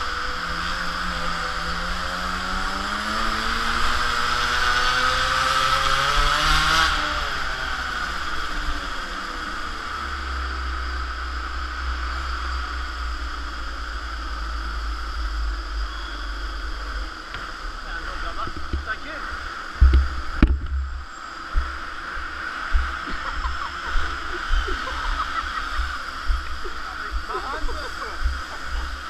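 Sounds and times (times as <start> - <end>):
two-stroke engine revving: 0.0 - 20.6, 21.5 - 29.0.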